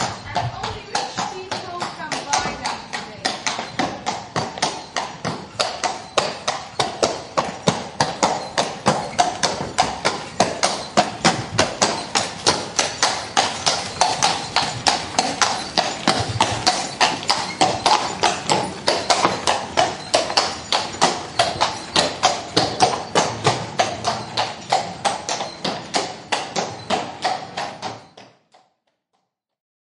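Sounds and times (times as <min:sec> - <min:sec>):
horse hooves clip-clop: 0:00.0 - 0:28.8.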